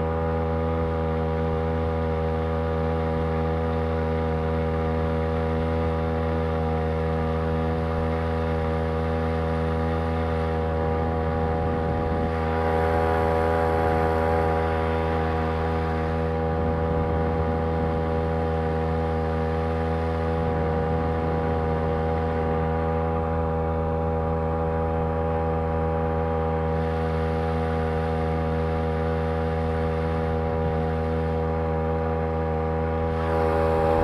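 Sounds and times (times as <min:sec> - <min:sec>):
two-stroke outboard motor running: 0:00.0 - 0:34.0.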